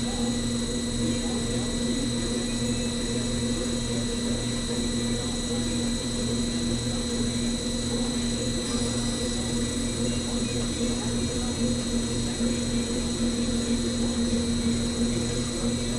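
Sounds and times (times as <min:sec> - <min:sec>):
metal spinning lathe humming: 0:00.0 - 0:15.9.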